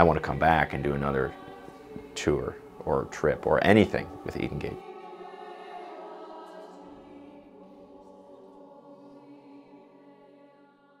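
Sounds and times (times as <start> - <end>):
choir singing slow chords: 0.0 - 11.0.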